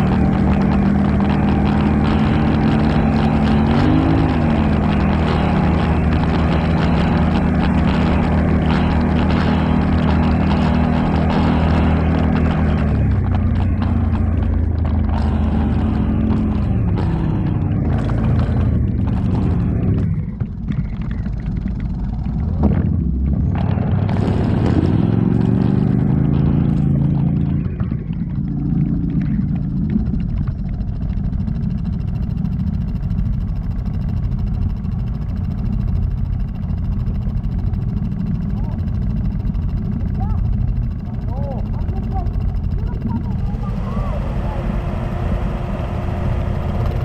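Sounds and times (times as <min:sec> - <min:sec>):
atv engine revving: 0:00.0 - 0:47.0
knocks and clatter: 0:00.0 - 0:47.0.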